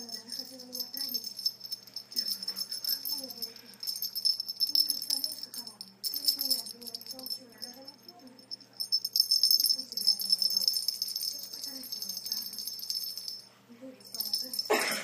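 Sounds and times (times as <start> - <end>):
small bells jingling: 0.0 - 15.0.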